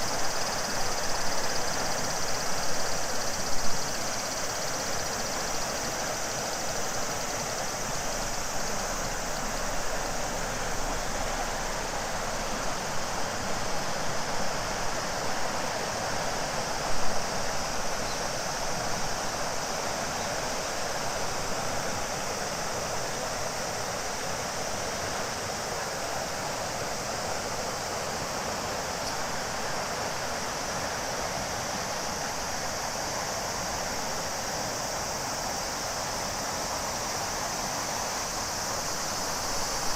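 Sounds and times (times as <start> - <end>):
cicadas droning: 0.0 - 39.9
river water rushing: 0.0 - 39.9.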